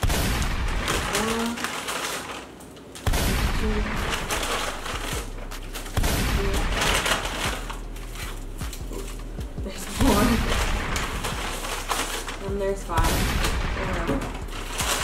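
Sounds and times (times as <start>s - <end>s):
foil crinkling: 0.0s - 15.0s
paper bags rustling: 0.6s - 15.0s.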